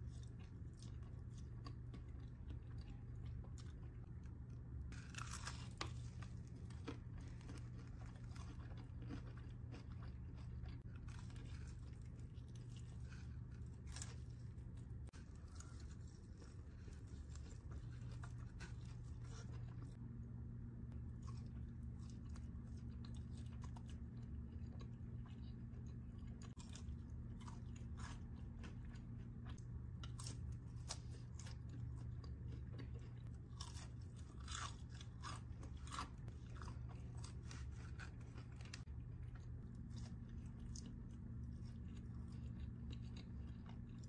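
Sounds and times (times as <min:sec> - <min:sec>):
chewing crispy chicken: 0:00.0 - 0:44.0
low hum: 0:00.0 - 0:44.0.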